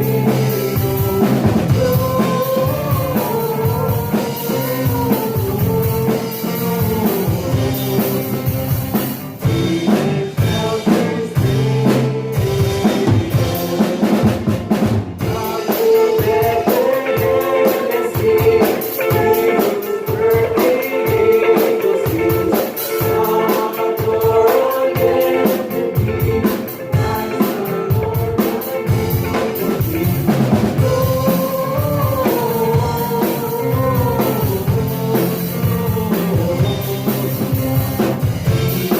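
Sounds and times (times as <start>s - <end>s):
drum kit: 0.0s - 38.9s
voices singing: 0.0s - 38.9s
worship band playing: 0.0s - 38.9s.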